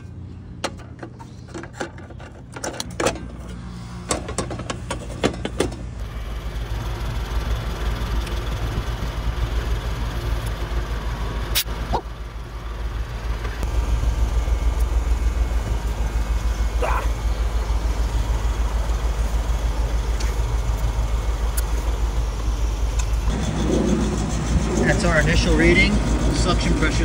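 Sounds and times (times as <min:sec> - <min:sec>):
compressor humming: 0:00.0 - 0:27.0
condenser fan rushing: 0:00.0 - 0:27.0.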